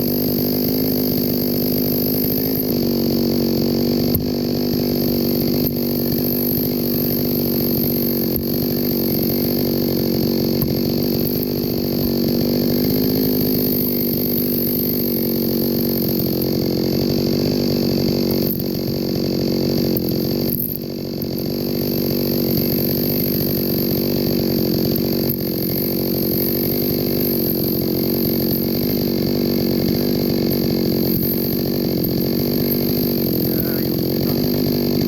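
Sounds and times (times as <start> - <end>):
chainsaw cutting through log: 0.0 - 35.0.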